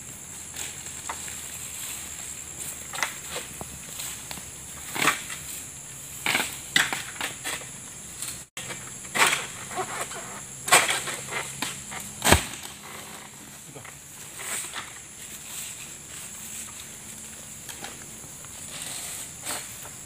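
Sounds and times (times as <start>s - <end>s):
high insect buzz: 0.0s - 20.0s.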